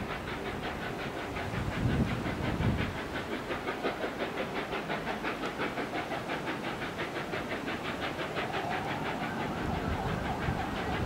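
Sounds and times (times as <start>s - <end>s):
rhythmic steam locomotive hiss: 0.0s - 11.0s.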